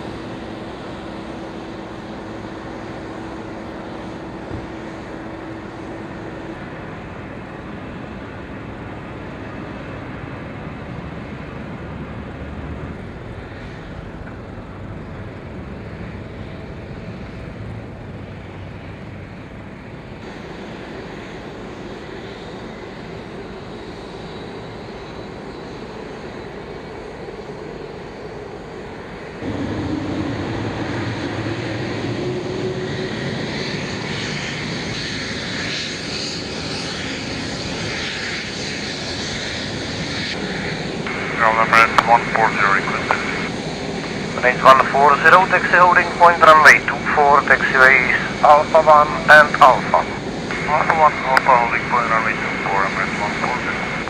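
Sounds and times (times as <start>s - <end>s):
jet engines humming with whine: 0.0s - 54.0s.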